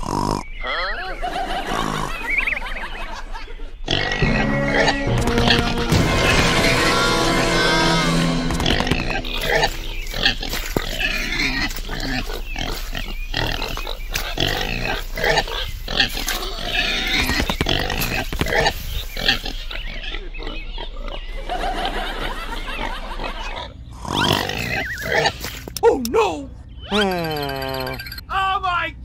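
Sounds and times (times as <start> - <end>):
pigs grunting and squealing: 0.0 - 2.5, 3.9 - 25.6, 26.8 - 28.0.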